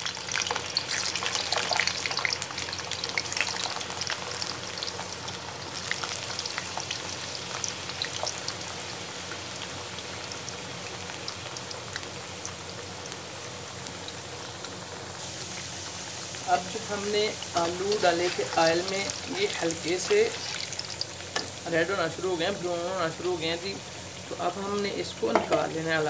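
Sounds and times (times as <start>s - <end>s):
potatoes deep-frying in oil: 0.0s - 26.0s.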